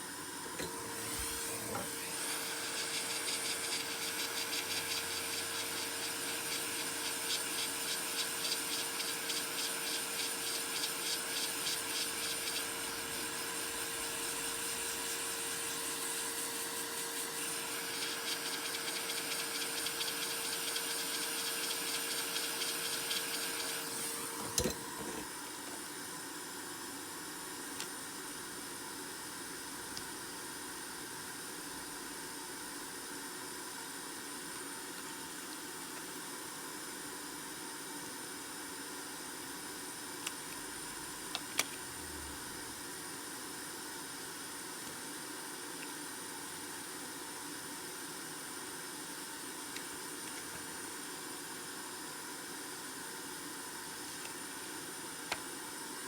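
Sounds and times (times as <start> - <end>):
machine hiss with whine: 0.0 - 56.0.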